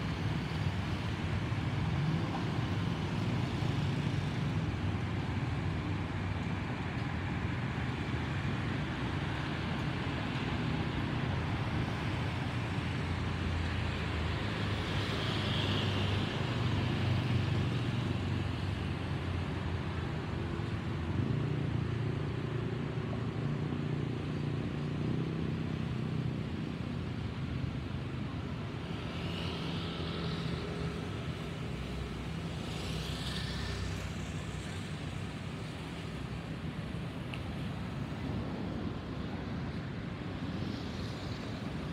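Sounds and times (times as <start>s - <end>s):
road traffic noise: 0.0s - 41.9s.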